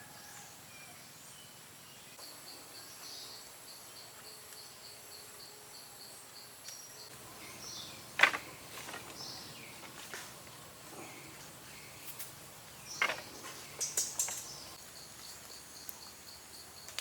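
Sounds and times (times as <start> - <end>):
high insect whine: 2.2 - 17.0.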